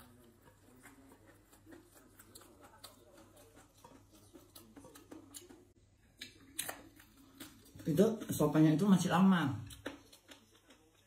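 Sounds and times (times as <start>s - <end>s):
soft eating sounds: 0.0s - 11.0s.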